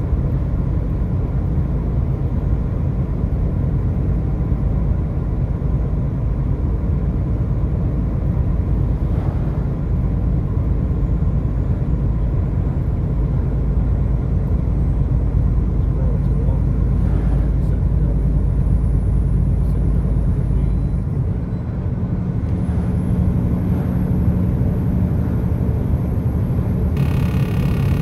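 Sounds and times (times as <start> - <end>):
car driving at highway speed: 0.0 - 28.0.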